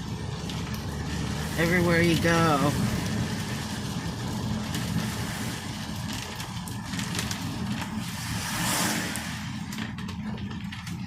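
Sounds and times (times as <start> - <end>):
car engine and road rumble: 0.0 - 11.0
rain and wet tyres hissing: 0.0 - 11.0.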